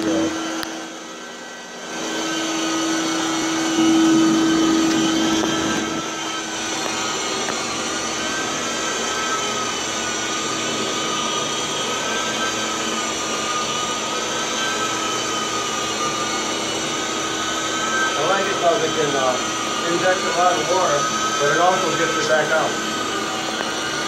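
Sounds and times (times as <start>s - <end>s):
carpet extractor vacuum motor whine: 0.0s - 24.0s.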